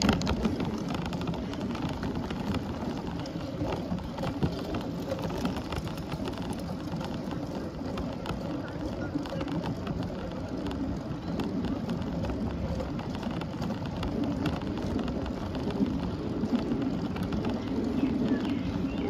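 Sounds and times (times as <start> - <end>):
tyres rolling on pavement: 0.0 - 19.0.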